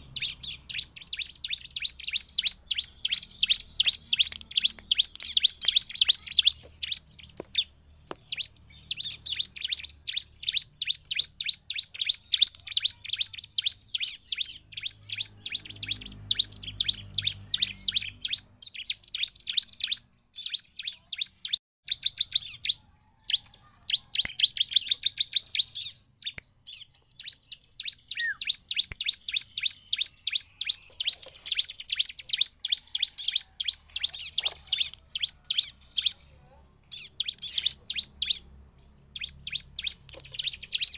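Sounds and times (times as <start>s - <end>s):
bird singing high chirps: 0.0s - 40.9s.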